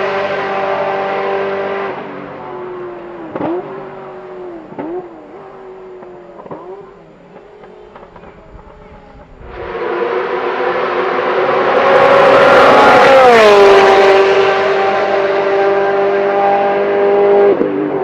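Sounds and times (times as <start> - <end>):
sports car engine at high revs: 0.0 - 18.0.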